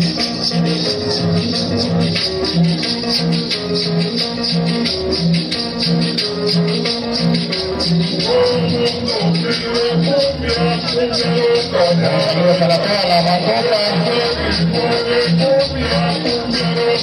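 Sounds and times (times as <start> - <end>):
latin dance music: 0.0 - 17.0.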